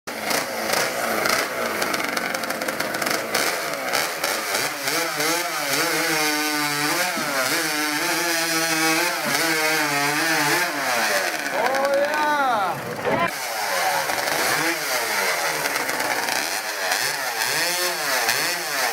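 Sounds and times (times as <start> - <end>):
racing chainsaw at full throttle: 0.1 - 13.4, 14.1 - 18.9.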